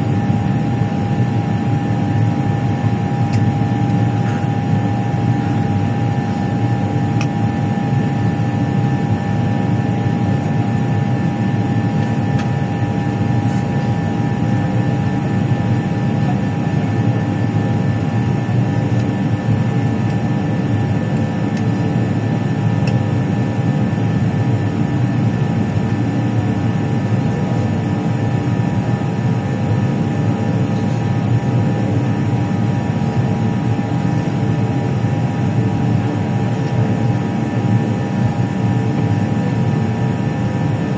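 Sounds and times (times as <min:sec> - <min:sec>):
aircraft engines droning: 0:00.0 - 0:40.9.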